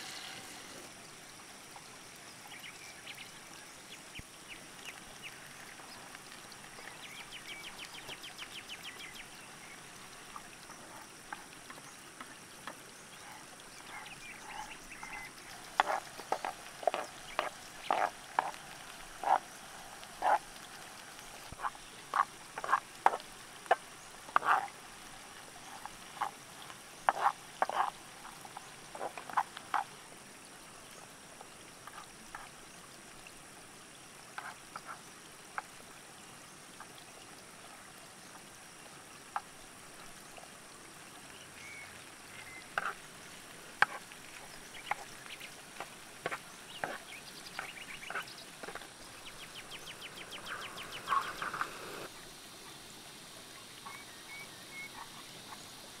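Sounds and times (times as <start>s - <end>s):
frogs croaking: 0.0s - 32.5s, 38.2s - 52.8s, 53.4s - 56.0s.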